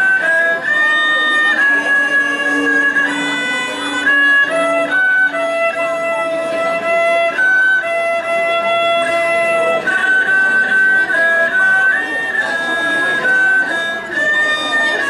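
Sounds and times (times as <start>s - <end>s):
bowed fiddle slow melody: 0.0s - 15.0s.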